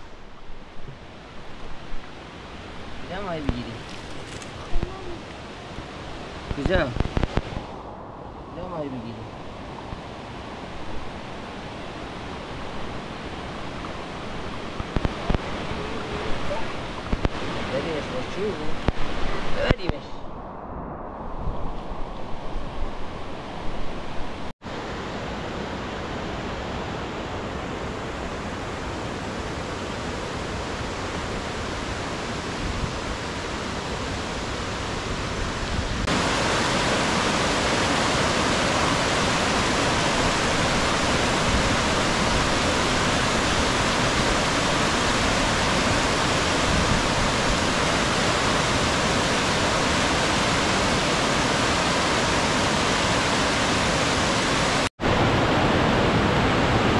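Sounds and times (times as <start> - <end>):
river water rushing: 0.0 - 20.0, 22.8 - 56.9.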